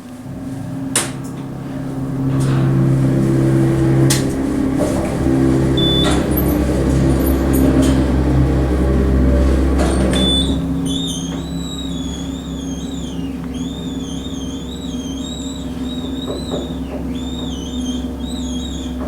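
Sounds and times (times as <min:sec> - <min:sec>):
elevator pump motor humming: 0:00.0 - 0:19.0
high wavering elevator squeal: 0:00.2 - 0:19.0.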